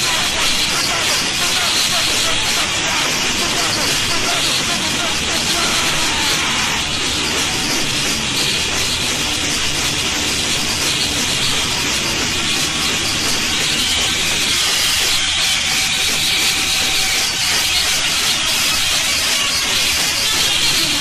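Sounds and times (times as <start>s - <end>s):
loud steady hissing noise: 0.0s - 21.0s.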